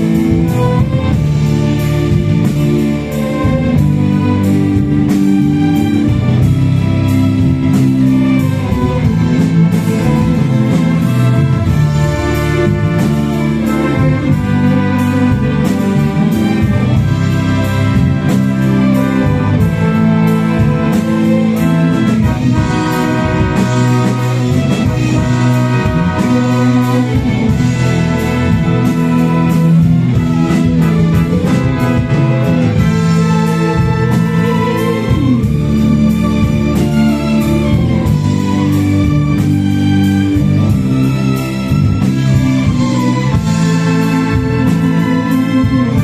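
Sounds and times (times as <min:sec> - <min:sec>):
steady beat: 0:00.0 - 0:46.0
strings playing held chords: 0:00.0 - 0:46.0.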